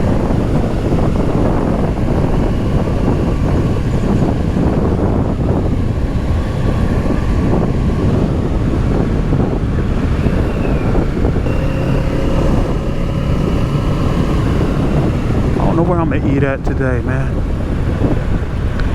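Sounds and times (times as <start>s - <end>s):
motorcycle engine running: 0.0s - 16.2s
wind rushing over microphone: 0.0s - 18.9s.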